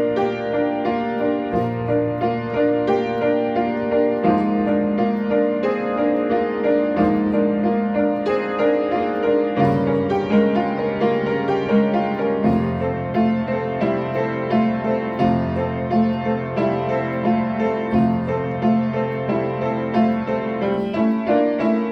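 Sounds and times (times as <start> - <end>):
slow solo piano piece: 0.0 - 21.9.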